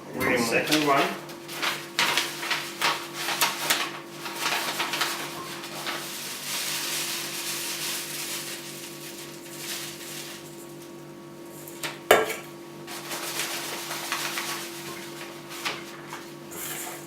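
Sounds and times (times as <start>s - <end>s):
dried lavender rustling: 0.5s - 11.8s, 12.8s - 16.4s.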